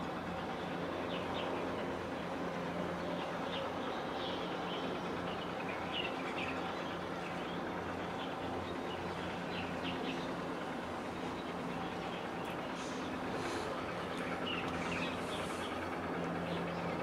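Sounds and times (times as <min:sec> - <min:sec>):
low mechanical drone: 0:00.0 - 0:17.0
outdoor background noise: 0:00.0 - 0:17.0
small birds chirping: 0:00.8 - 0:17.0.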